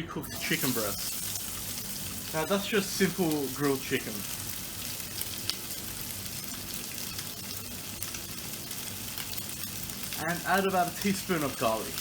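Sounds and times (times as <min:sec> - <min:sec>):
chicken sizzling in a frying pan: 0:00.2 - 0:12.0.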